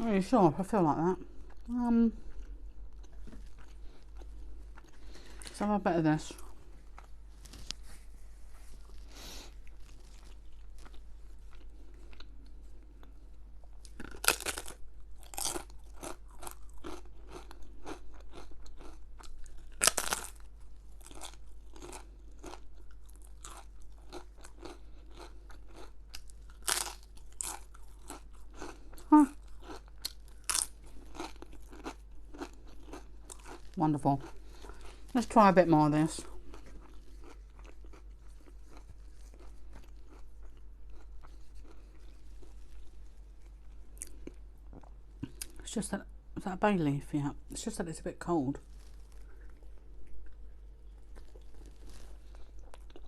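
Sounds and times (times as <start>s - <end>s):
person chewing crunchy food: 1.2s - 5.6s, 6.3s - 35.2s, 35.8s - 45.6s, 48.6s - 53.0s.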